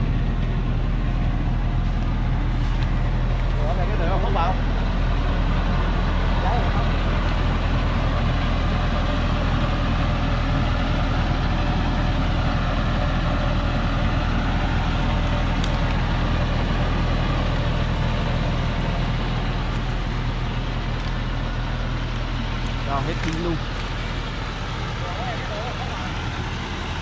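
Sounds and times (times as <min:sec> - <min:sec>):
truck diesel engine under load: 0:00.0 - 0:27.0.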